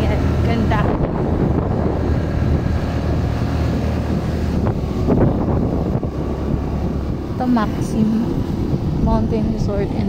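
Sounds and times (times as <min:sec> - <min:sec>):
motorcycle engine low hum: 0:00.0 - 0:10.0
wind buffeting microphone: 0:00.0 - 0:10.0.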